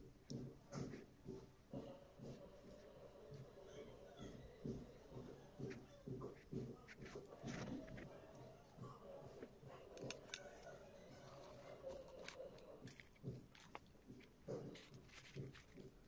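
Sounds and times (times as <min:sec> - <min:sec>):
chewing: 0:00.3 - 0:16.0.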